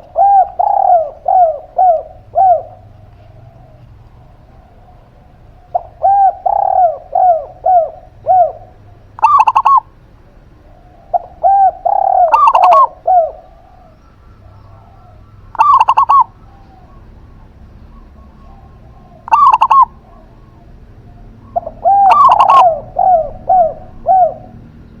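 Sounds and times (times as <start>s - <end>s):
doves cooing: 0.0s - 25.0s.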